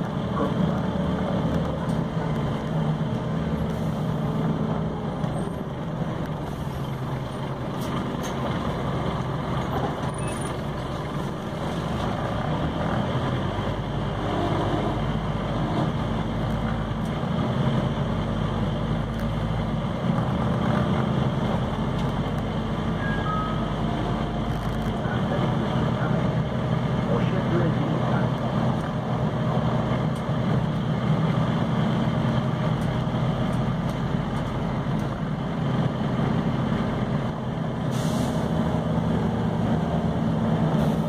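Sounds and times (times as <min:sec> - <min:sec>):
bus diesel engine drone: 0:00.0 - 0:41.0
road and cabin noise: 0:00.0 - 0:41.0.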